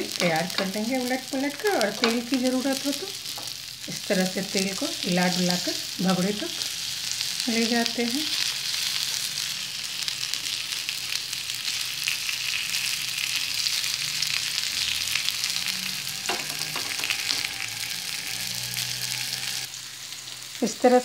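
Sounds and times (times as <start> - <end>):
fritters sizzling in oil: 0.0 - 21.0.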